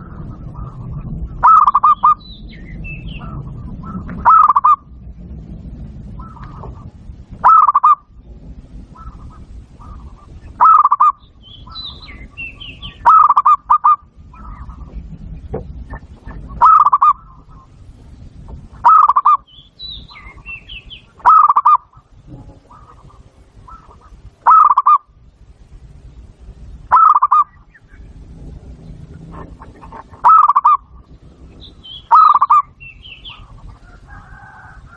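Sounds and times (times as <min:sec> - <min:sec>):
bird twittering: 0:00.0 - 0:04.9, 0:06.2 - 0:08.1, 0:08.9 - 0:17.8, 0:18.8 - 0:25.1, 0:26.8 - 0:28.2, 0:28.9 - 0:34.0
dove cooing: 0:00.0 - 0:04.9, 0:06.1 - 0:08.2, 0:08.8 - 0:17.8, 0:18.8 - 0:19.5, 0:20.1 - 0:25.1, 0:26.9 - 0:27.8, 0:29.1 - 0:34.9.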